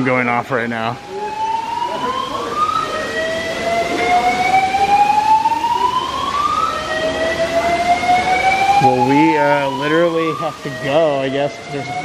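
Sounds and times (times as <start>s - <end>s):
fire alarm wailing tone: 0.0s - 12.0s.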